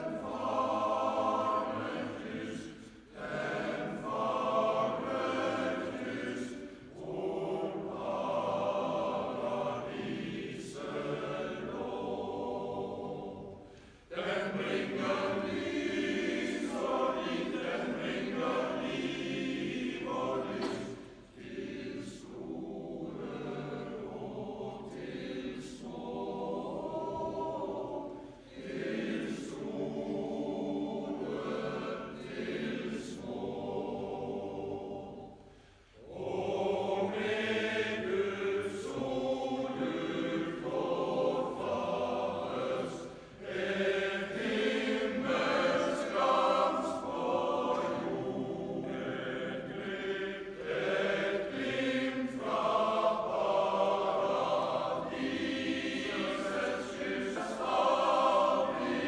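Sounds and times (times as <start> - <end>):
men's choir singing: 0.0 - 59.0.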